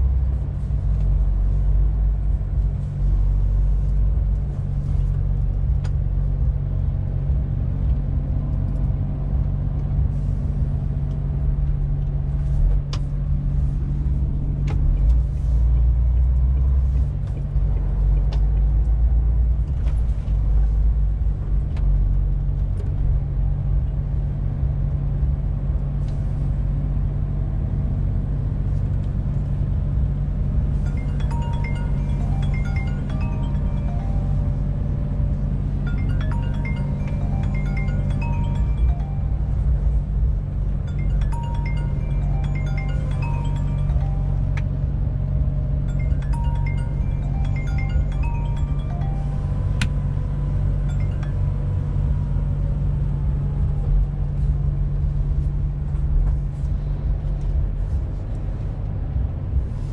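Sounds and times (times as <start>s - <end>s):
diesel engine low rumble: 0.0s - 59.9s
road noise: 0.0s - 59.9s.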